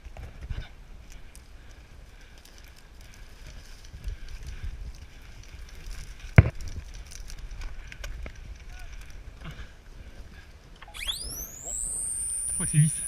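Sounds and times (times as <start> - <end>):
footsteps over rough ground: 0.0 - 10.8
light crackles: 0.0 - 13.0.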